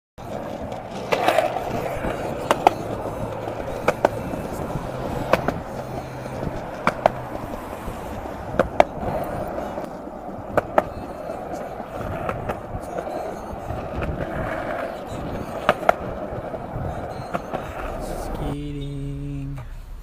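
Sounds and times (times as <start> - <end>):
skateboard wheels clicking over joints: 0.2 - 18.5
skateboard wheels rumbling: 0.2 - 18.6.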